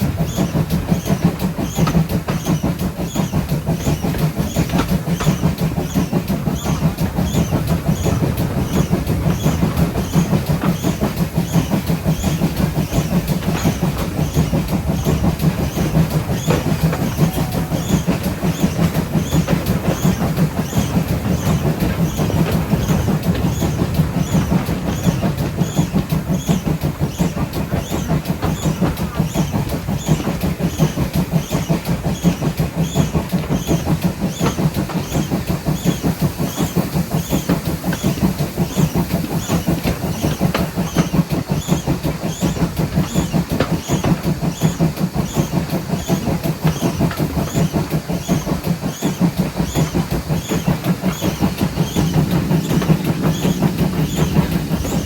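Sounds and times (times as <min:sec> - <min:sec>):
train rumble and rail noise: 0:00.0 - 0:55.0.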